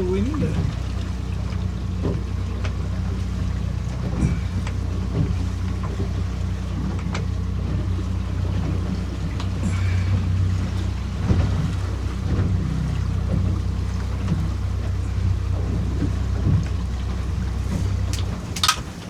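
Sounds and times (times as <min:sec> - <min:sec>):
outboard motor running: 0:00.0 - 0:19.0
waves slapping boat hull: 0:00.0 - 0:19.0.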